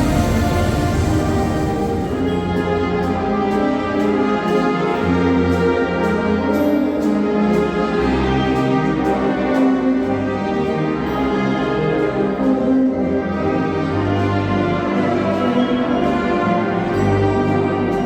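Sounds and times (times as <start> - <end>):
wind band playing: 0.0 - 18.0.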